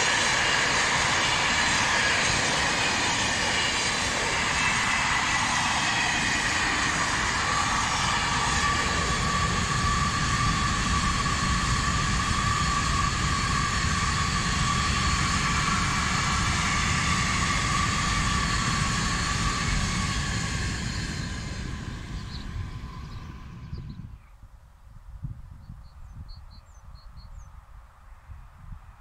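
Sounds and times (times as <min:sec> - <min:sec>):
steady high whine: 0:00.0 - 0:24.3
wheels rumbling on rail: 0:00.0 - 0:24.3.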